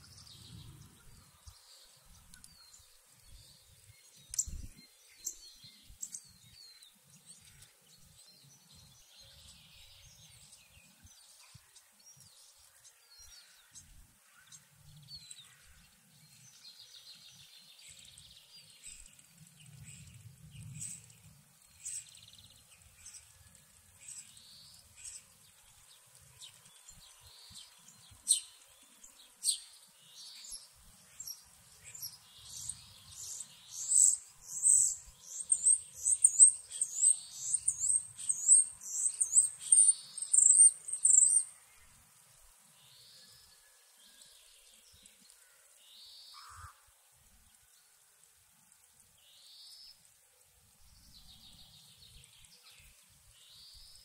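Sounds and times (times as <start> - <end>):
songbirds calling: 0.0 - 47.8.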